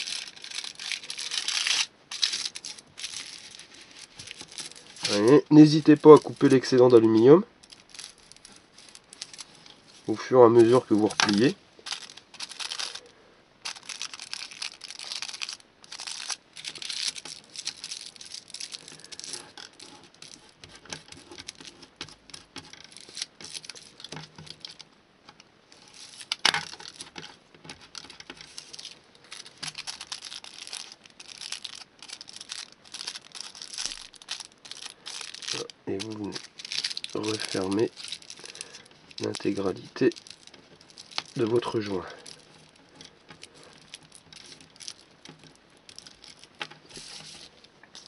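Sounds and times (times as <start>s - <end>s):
foil crinkling and tearing: 0.0s - 24.8s, 25.7s - 48.0s.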